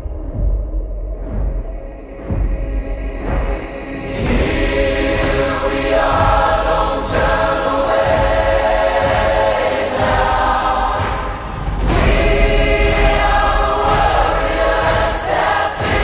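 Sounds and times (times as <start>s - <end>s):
choir-like soundtrack music: 0.0s - 16.0s.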